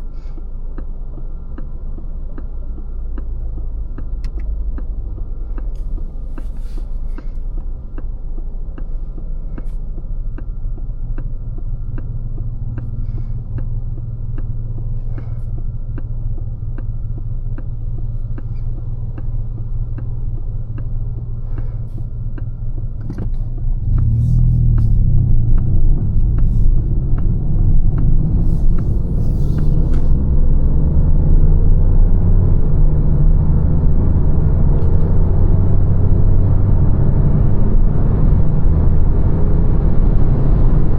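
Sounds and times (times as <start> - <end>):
road rumble inside car: 0.0 - 40.9
turn signal ticking: 0.0 - 40.9.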